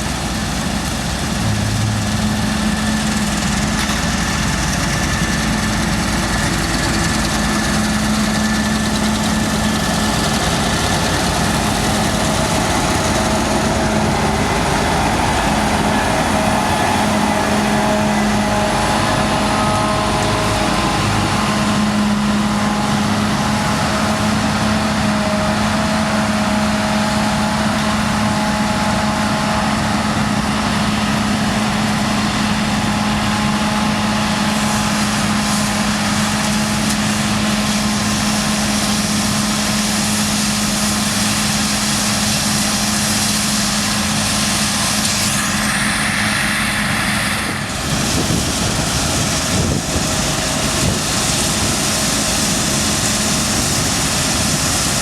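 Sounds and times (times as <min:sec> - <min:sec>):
combine harvester engine drone: 0:00.0 - 0:55.0
steady machine hum: 0:00.0 - 0:55.0.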